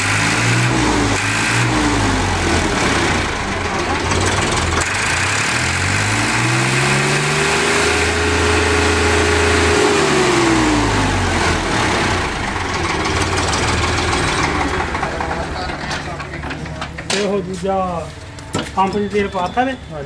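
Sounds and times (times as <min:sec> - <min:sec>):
tractor diesel engine revving: 0:00.0 - 0:16.9.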